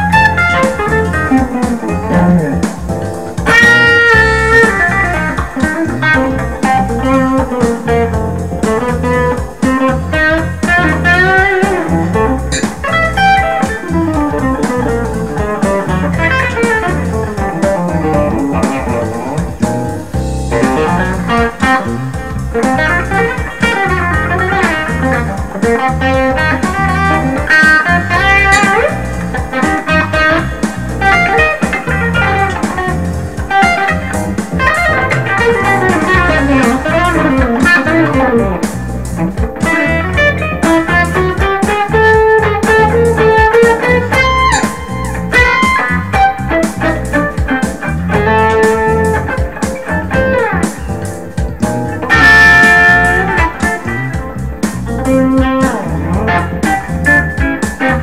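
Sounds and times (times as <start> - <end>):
electric guitar blues solo: 0.0 - 58.0.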